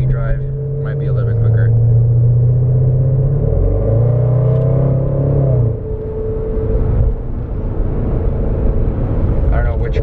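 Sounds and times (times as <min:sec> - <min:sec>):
car engine drone from cabin: 0:00.0 - 0:10.0.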